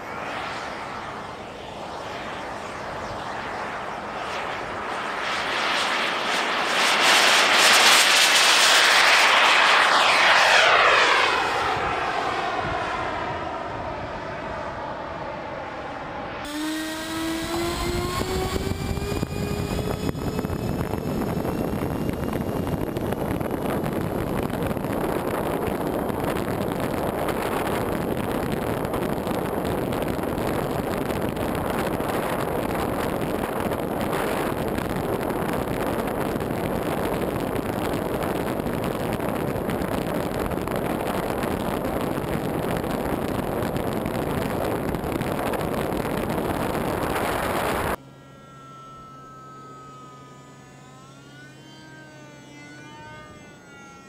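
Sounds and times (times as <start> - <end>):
wind rushing over microphone: 0.0 - 48.0
model jet ducted fans rushing: 0.0 - 54.0
thin model plane whine: 0.0 - 54.0.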